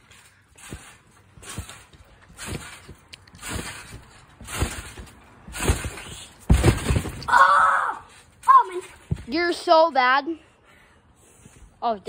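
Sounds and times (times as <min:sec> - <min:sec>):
trampoline mat thudding: 0:00.0 - 0:09.7.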